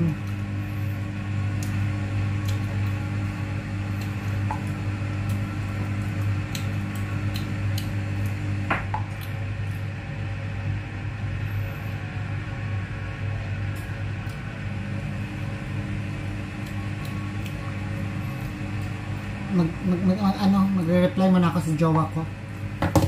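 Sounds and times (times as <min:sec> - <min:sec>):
low electrical appliance hum: 0:00.0 - 0:23.0.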